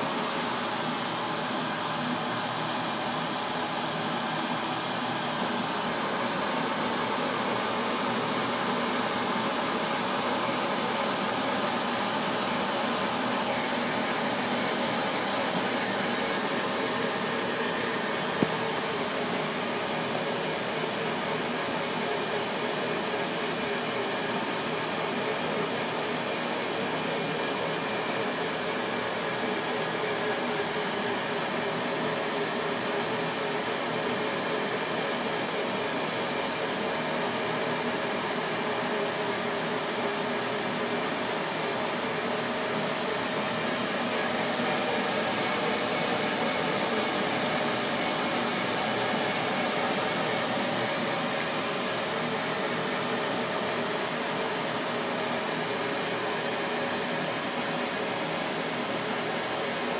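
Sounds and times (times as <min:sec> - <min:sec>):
laser engraver fans whirring: 0:00.0 - 0:59.9.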